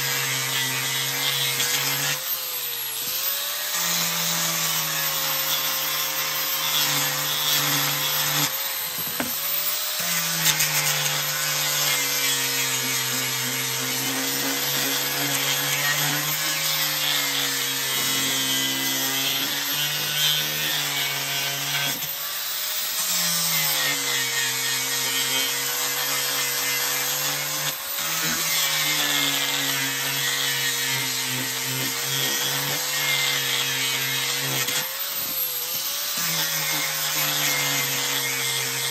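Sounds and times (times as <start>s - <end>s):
angle grinder sanding wood: 0.0s - 38.9s.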